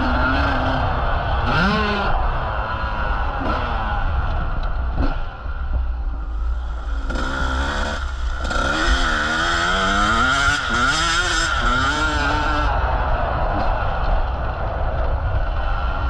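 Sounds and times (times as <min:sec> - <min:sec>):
motocross bike engine revving: 0:00.0 - 0:14.3.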